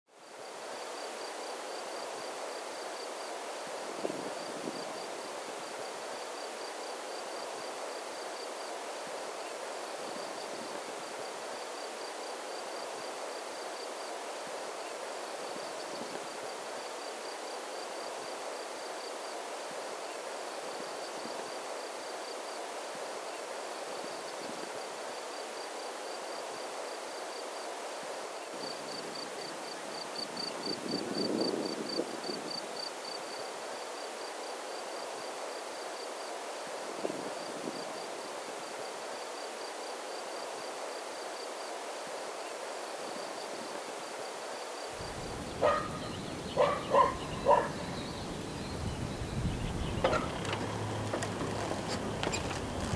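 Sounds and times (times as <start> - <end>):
crickets chirping: 0.1 - 52.9
outdoor ambient hiss: 0.1 - 52.9.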